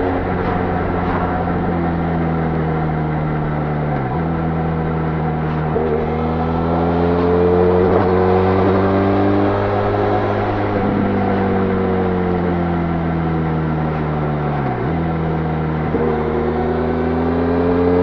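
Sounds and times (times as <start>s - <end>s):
motorcycle engine riding: 0.0s - 18.0s.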